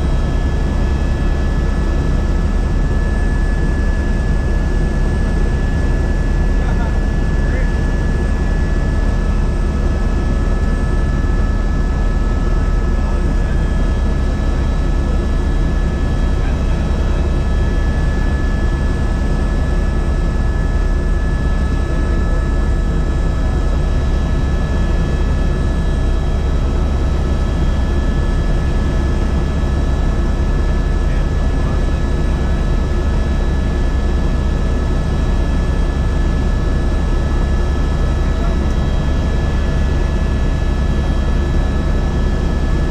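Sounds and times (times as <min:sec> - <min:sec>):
helicopter drone: 0:00.0 - 0:42.9.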